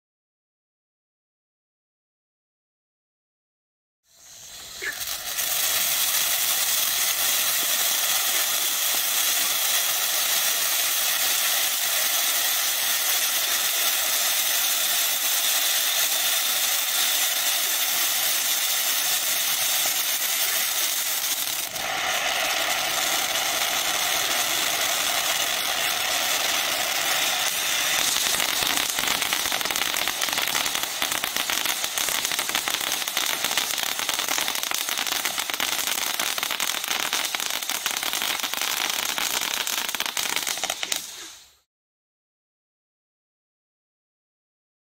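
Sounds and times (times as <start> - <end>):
firework fountain hissing: 4.0 - 41.7
firework bursts: 4.1 - 41.7.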